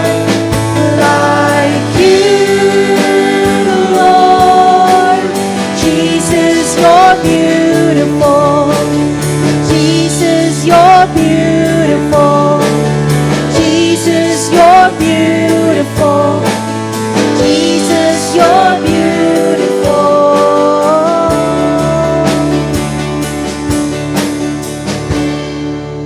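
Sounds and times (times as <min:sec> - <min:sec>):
worship band music: 0:00.0 - 0:26.0.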